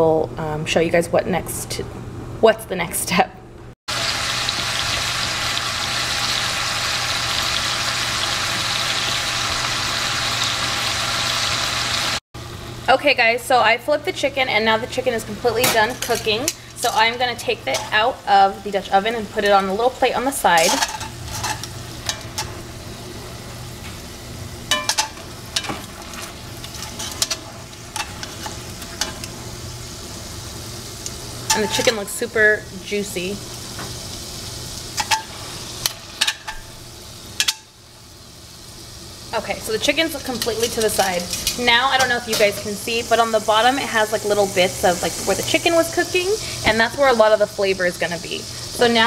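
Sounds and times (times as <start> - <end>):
chicken sizzling in hot oil: 3.9 - 12.2, 14.8 - 49.0.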